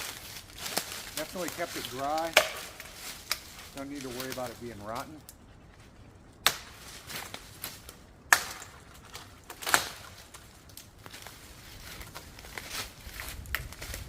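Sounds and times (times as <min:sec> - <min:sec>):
wood snapping and rustling: 0:00.0 - 0:05.4, 0:06.3 - 0:14.0
firewood cracking: 0:00.0 - 0:14.0.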